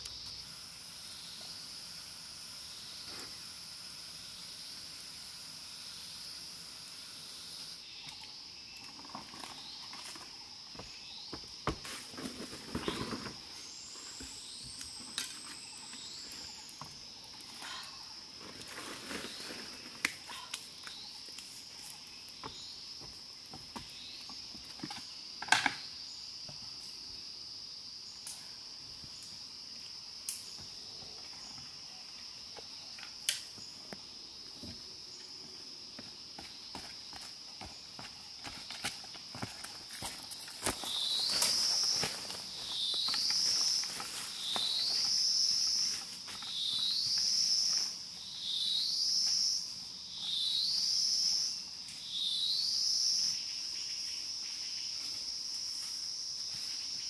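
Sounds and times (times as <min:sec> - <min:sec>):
high-pitched insect drone: 0:00.0 - 0:11.8, 0:19.1 - 0:57.0.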